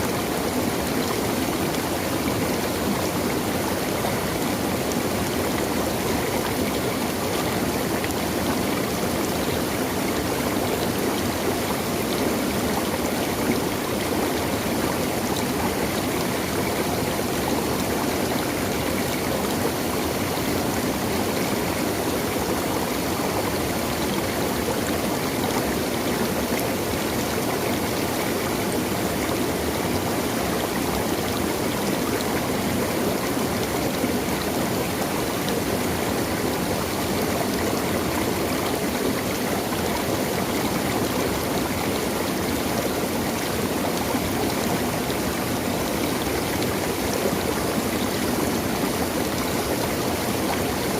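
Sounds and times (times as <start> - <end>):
running water rushing: 0.0 - 50.9.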